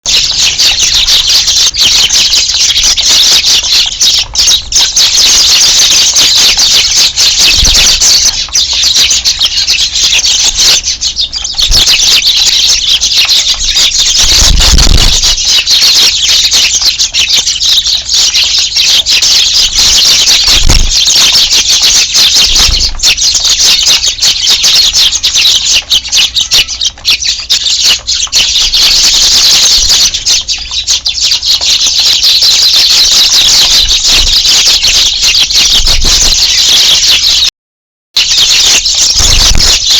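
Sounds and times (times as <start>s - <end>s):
flock of sparrows chirping: 0.0s - 37.5s, 38.2s - 39.9s.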